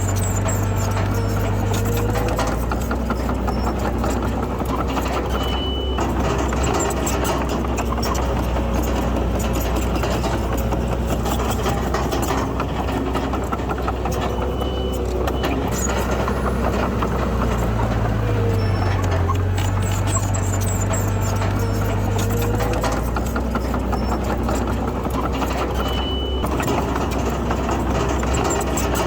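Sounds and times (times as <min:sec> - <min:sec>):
diesel earthmoving machinery: 0:00.0 - 0:29.0.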